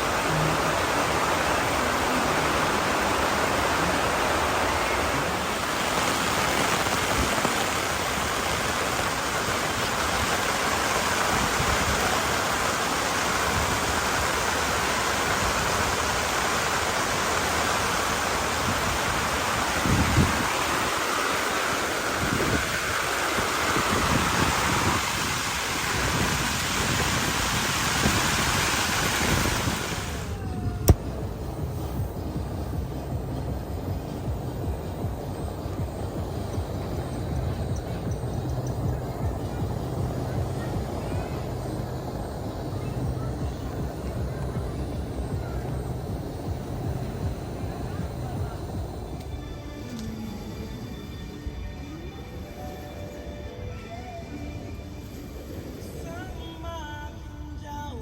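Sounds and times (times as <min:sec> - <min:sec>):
water rushing: 0:00.0 - 0:49.6.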